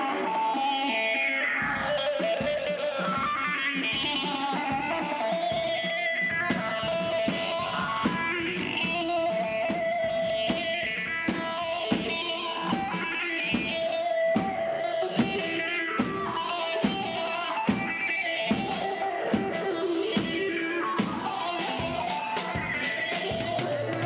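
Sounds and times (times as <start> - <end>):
steady drum beat: 1.2 - 24.0.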